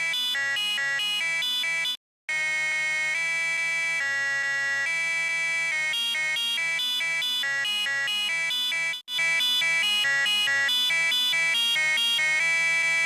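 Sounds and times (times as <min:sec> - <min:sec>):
electronic fire alarm tone: 0:00.0 - 0:13.0.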